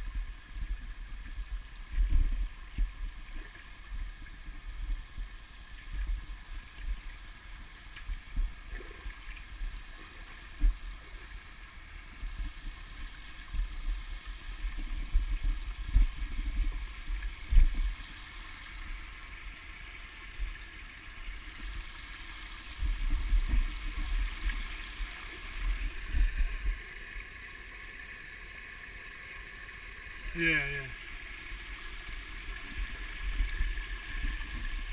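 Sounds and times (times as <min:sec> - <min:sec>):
stream babbling over rocks: 0:00.2 - 0:34.9.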